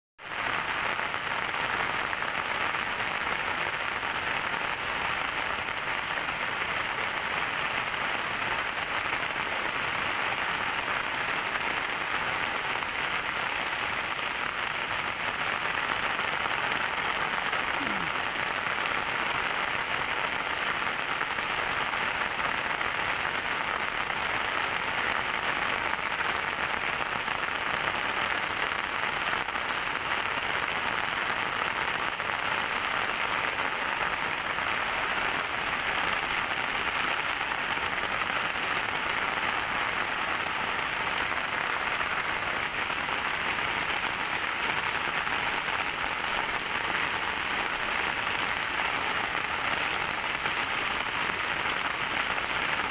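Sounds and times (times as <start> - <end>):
heavy rain pouring: 0.2 - 52.9.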